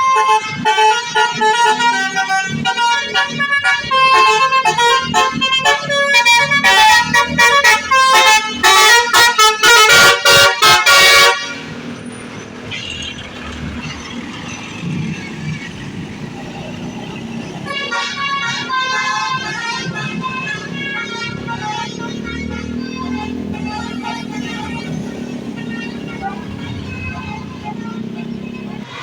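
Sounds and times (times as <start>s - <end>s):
multi-tone bus horn tune: 0.0s - 12.0s, 16.8s - 29.0s.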